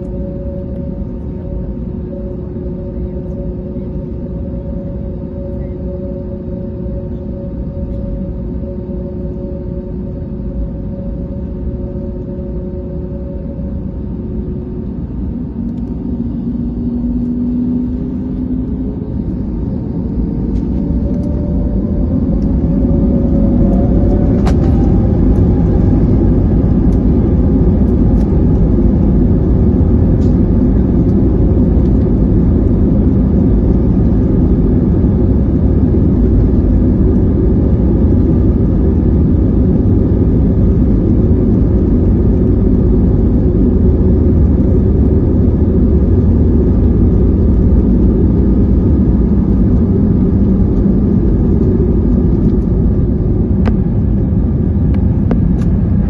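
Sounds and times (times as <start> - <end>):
jet engines spooling up: 0.0 - 56.0.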